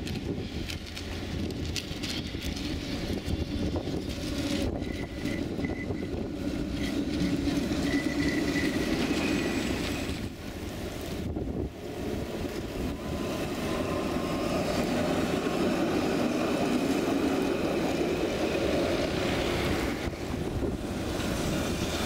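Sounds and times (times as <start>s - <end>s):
tram wheels rumbling: 0.0s - 22.0s.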